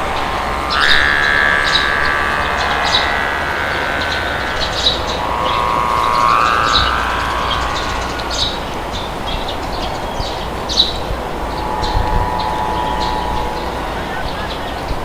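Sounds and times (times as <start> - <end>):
small birds chirping: 0.0 - 15.0
sustained whistling tone: 0.0 - 15.0
wind rushing: 0.0 - 15.0.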